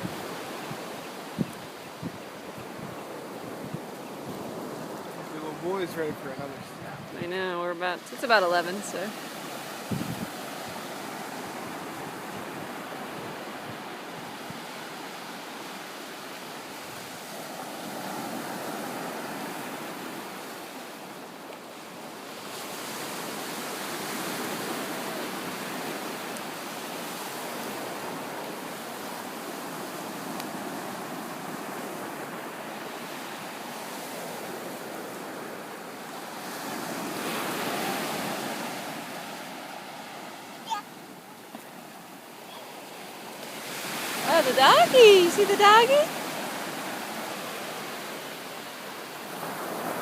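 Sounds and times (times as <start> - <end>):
waves breaking on beach: 0.0 - 50.0.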